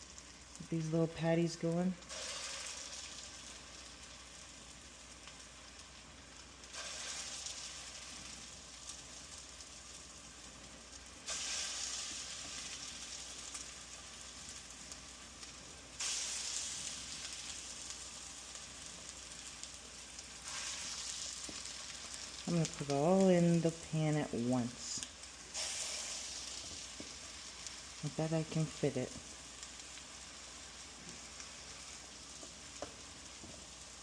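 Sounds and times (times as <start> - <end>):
patties sizzling in hot oil: 0.0 - 34.0.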